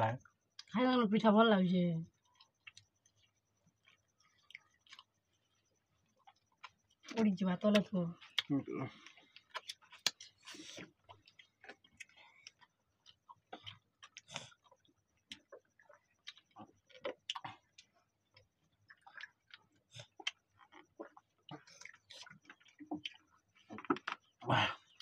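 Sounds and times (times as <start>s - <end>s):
clicks of people eating: 2.2s - 5.2s, 6.3s - 25.0s.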